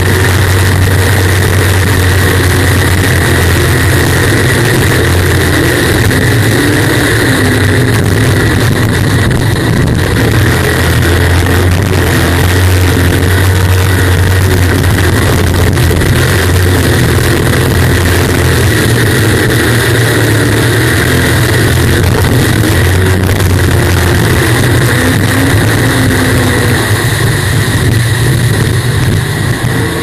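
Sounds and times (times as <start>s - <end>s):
jet boat engine roaring: 0.0s - 30.0s
rush of wind and water: 0.0s - 30.0s.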